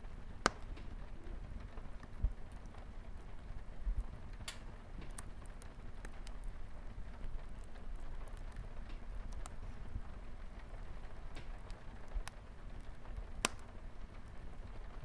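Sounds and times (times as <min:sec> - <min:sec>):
light rain on a window: 0:00.0 - 0:15.0
wood fire crackling: 0:00.0 - 0:15.0.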